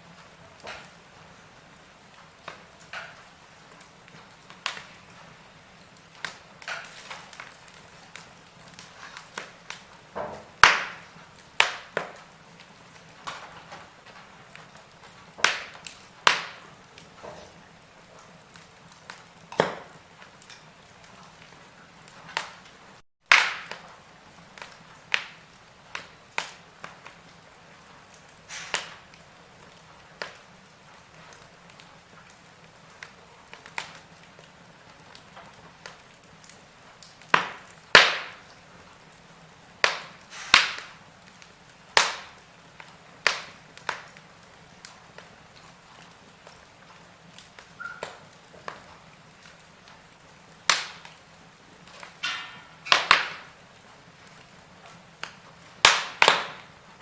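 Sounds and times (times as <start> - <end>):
faint steady hiss: 0.0 - 57.0
wood fire crackling and popping: 0.0 - 57.0.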